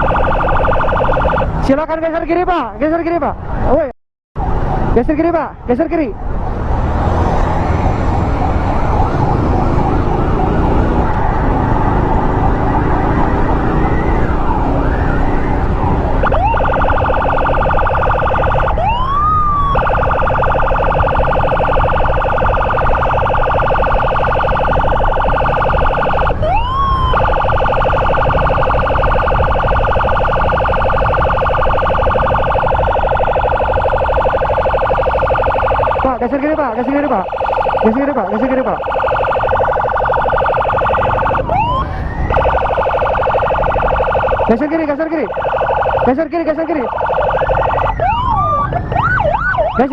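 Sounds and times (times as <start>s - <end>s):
electronic emergency siren: 0.0s - 49.9s.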